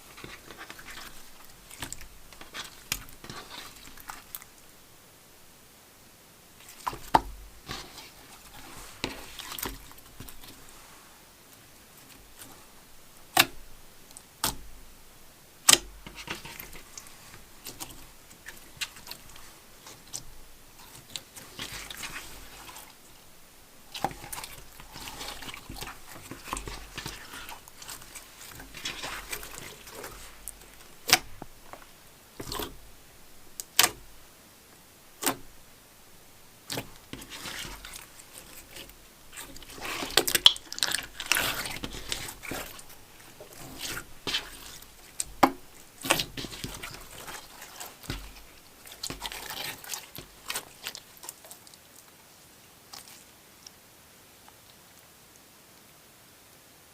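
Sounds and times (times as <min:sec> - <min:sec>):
slime squelching by hand: 0:00.0 - 0:04.9, 0:06.6 - 0:14.8, 0:15.6 - 0:34.2, 0:35.1 - 0:35.6, 0:36.5 - 0:52.2, 0:52.9 - 0:53.4.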